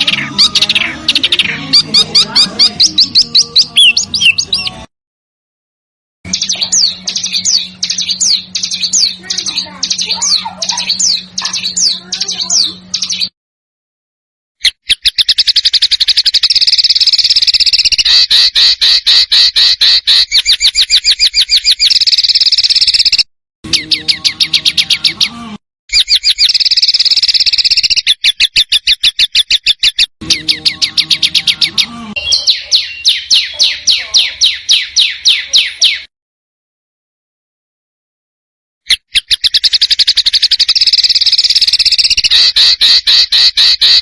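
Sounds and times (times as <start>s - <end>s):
songbirds chirping rapidly: 0.0s - 4.9s, 6.3s - 13.4s, 14.6s - 36.1s, 38.9s - 44.0s.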